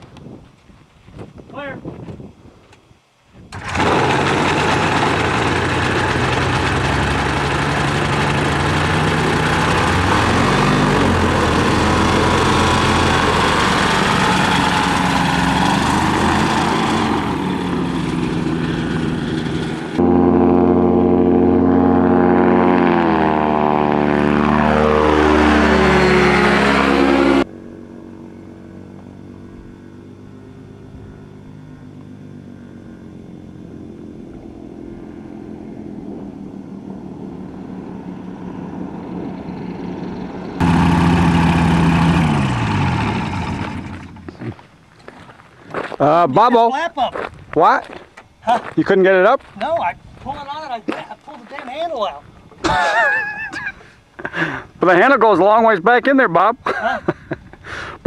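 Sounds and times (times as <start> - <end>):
light aircraft engine and propeller: 3.5 - 44.9, 49.6 - 58.0.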